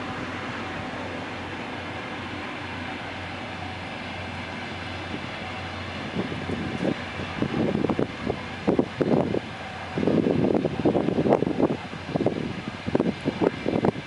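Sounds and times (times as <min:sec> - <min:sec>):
freight train rumbling past: 0:00.0 - 0:14.0
wind buffeting microphone: 0:00.0 - 0:14.0.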